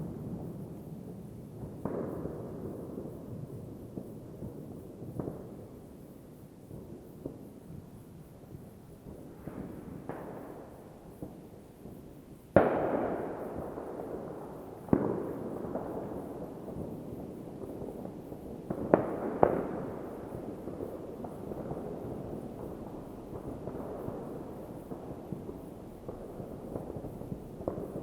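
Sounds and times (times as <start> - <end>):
distant fireworks bangs echoing: 0.0 - 7.7, 8.5 - 28.0.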